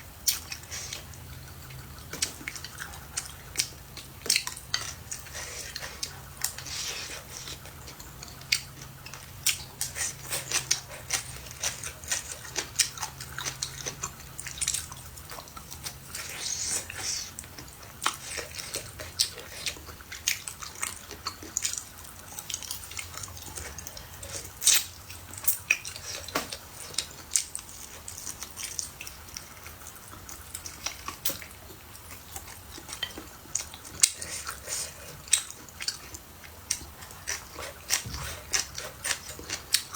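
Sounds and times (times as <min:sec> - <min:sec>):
chewing and biting food: 0:00.2 - 0:39.9.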